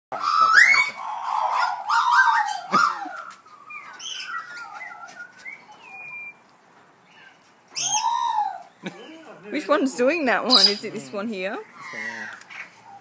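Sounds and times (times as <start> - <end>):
magpies warbling: 0.1 - 6.4, 7.0 - 13.0.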